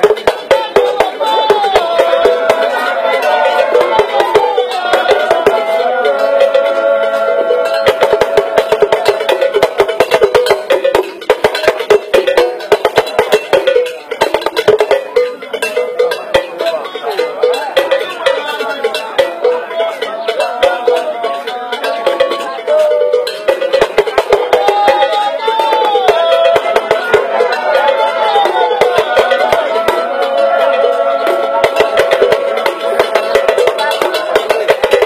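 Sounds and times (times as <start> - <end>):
fast dense percussion: 0.0 - 35.0
voices singing: 0.0 - 35.0.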